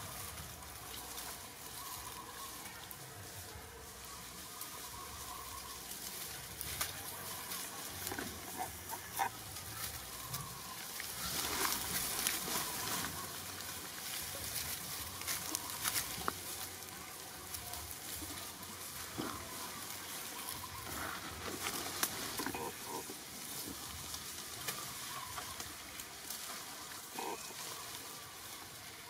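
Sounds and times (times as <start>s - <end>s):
dry leaves crackling underfoot: 0.0s - 29.0s.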